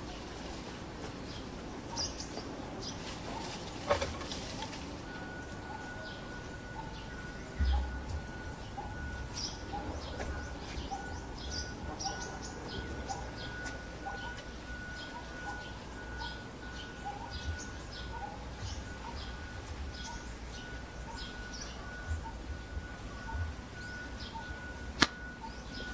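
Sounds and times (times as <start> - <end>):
birds chirping and calling: 1.0 - 25.9.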